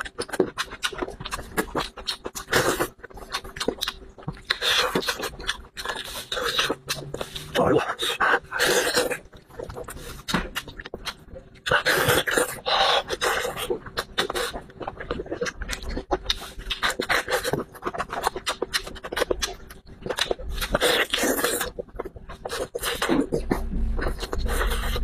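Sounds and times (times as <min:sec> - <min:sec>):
chewing and lip-smacking: 0:00.0 - 0:25.0.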